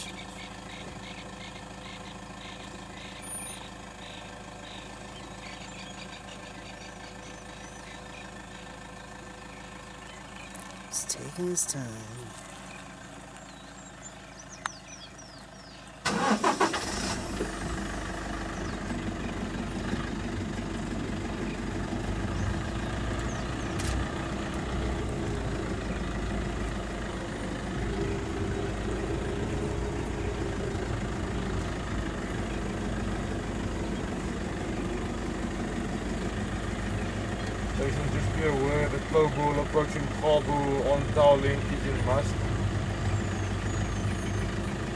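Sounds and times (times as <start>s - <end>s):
car engine cranking and starting: 0.0s - 44.9s.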